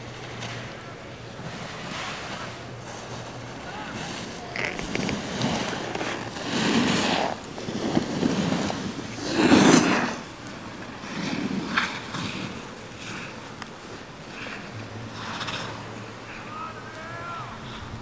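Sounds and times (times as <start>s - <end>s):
snowboard carving hard snow: 0.0s - 17.8s.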